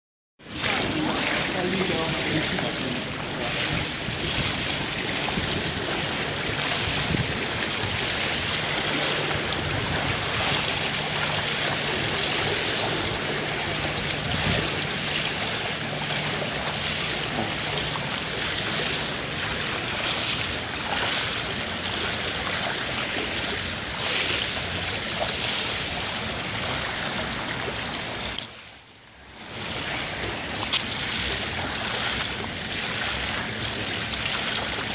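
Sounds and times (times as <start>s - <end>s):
pool water splashing: 0.4s - 34.9s.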